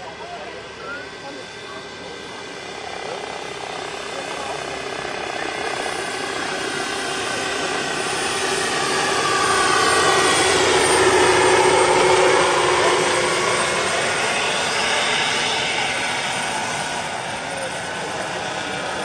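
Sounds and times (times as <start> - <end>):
model helicopter motor whine: 0.1 - 19.0.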